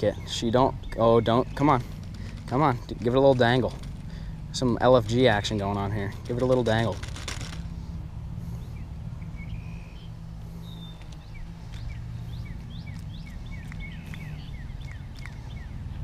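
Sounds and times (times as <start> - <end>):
small birds chirping: 0.0 - 7.0, 7.6 - 16.0
steady low rumble: 0.0 - 16.0.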